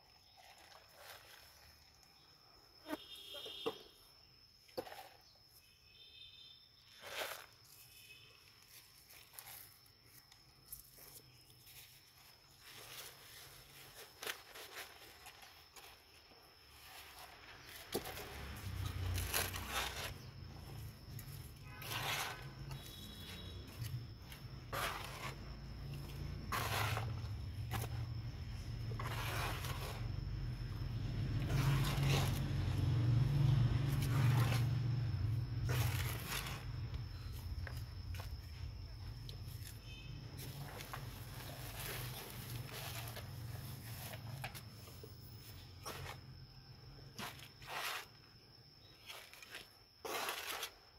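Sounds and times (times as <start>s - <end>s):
soil rustling and crumbling: 0.0s - 2.3s, 6.8s - 50.9s.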